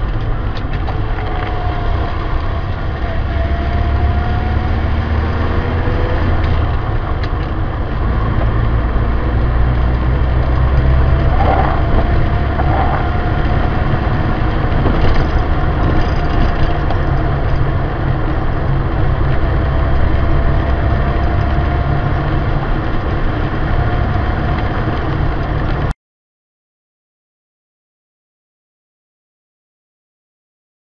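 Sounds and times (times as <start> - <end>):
car engine and road noise: 0.0 - 25.9.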